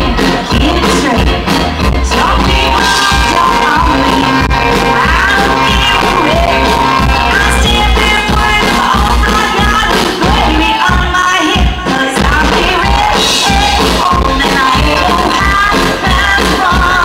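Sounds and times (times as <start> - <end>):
live rock band playing: 0.0 - 17.0
woman singing: 0.3 - 1.4, 2.0 - 17.0.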